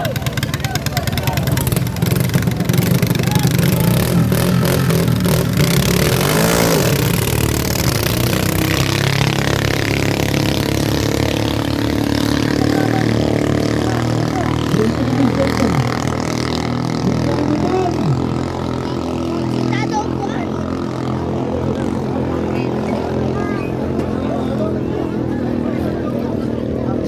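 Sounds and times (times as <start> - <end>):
racing boat engines at high revs: 0.0 - 27.0.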